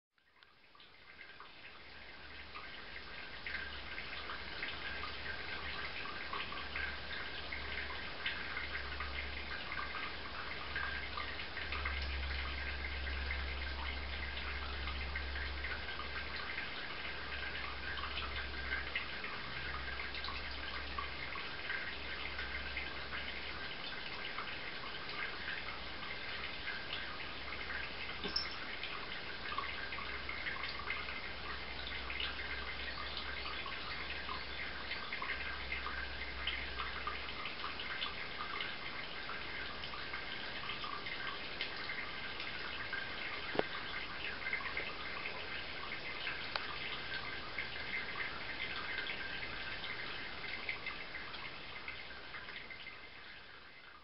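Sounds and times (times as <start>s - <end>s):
water dripping from a tap: 0.2s - 54.0s.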